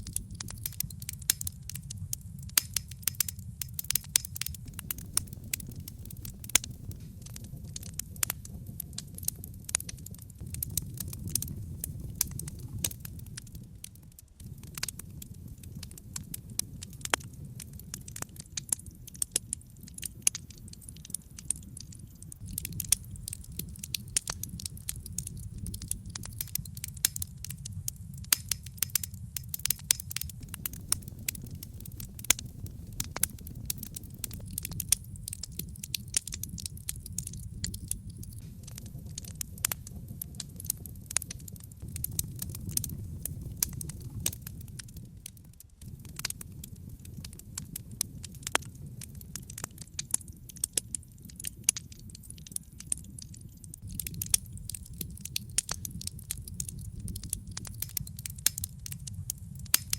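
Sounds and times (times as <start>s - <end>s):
logs burning with crackles: 0.0s - 59.9s.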